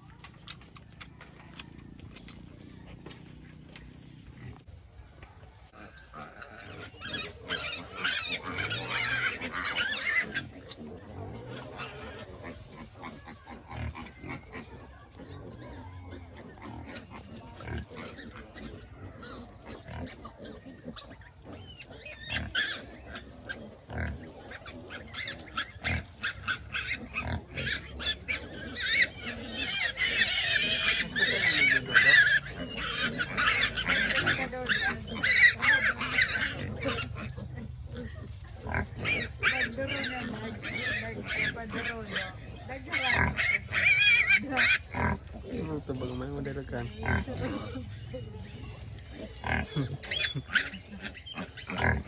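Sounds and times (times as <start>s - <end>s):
pigs grunting: 0.0s - 52.0s
pigs squealing: 0.0s - 52.0s.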